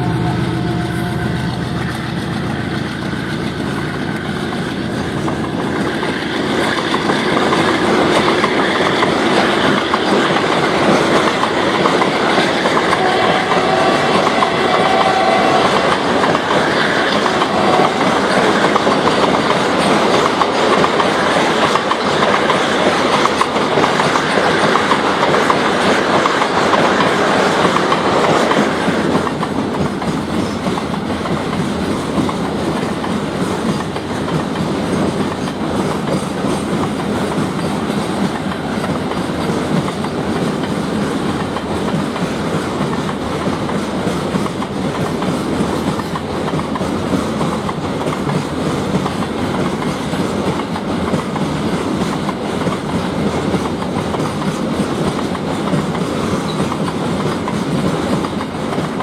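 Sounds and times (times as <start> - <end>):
train wheels clattering over rails: 0.0 - 59.0.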